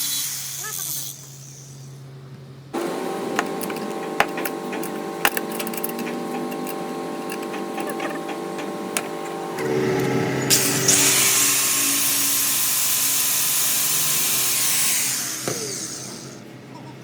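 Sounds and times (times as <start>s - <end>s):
power tool hissing on metal: 0.0s - 2.0s, 2.8s - 16.4s.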